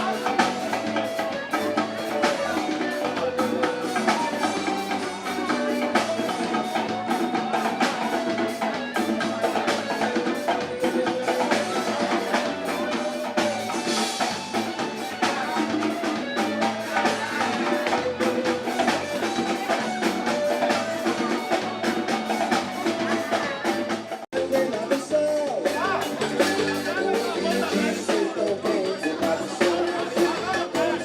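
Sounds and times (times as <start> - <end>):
band playing upbeat music: 0.0 - 31.0
drums and percussion beat: 0.0 - 31.0.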